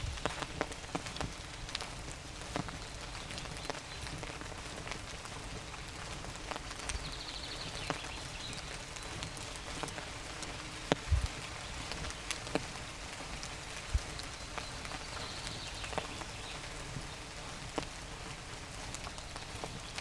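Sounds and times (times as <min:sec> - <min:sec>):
raindrops pattering on leaves: 0:00.0 - 0:20.0.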